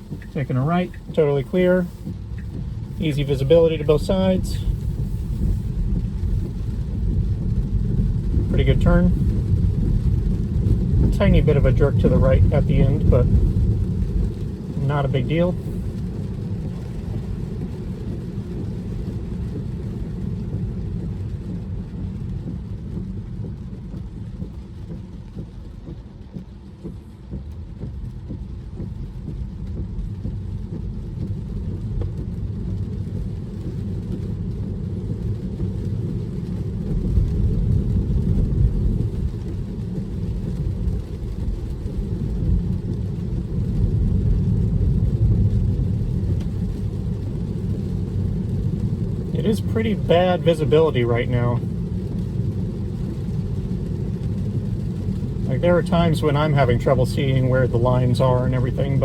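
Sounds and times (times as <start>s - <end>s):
tyre and road noise in car: 0.0s - 59.0s.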